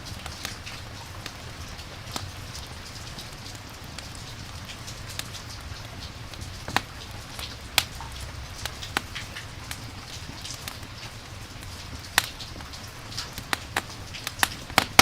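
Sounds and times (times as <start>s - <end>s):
campfire crackling and popping: 0.0s - 15.0s
rain hiss: 0.0s - 15.0s.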